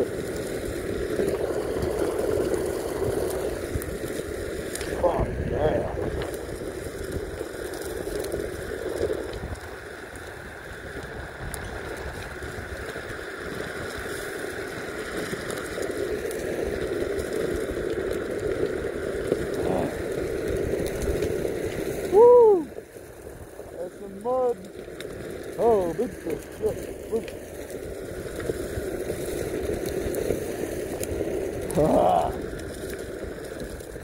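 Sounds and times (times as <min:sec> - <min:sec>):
skateboard rolling on dirt: 0:00.0 - 0:34.0.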